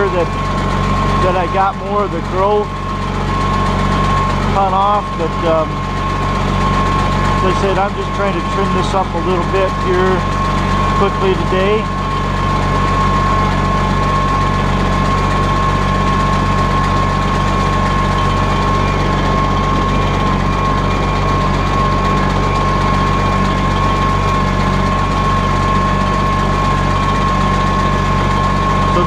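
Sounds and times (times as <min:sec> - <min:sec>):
hedge trimmer high-pitched whine: 0:00.0 - 0:29.0
tractor engine running: 0:00.0 - 0:29.0.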